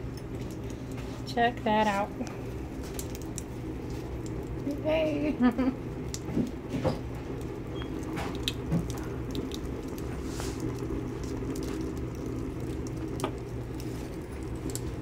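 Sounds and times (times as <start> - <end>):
fire rumbling: 0.0 - 15.0
wood crackling and popping: 0.0 - 15.0.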